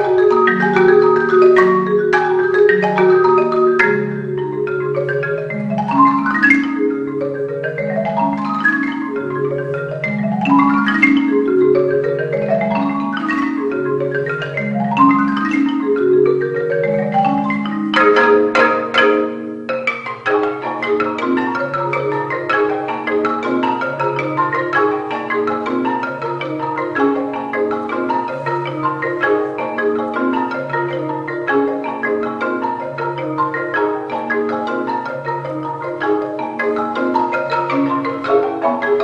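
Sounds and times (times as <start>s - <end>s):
mallet percussion ensemble: 0.0s - 39.0s.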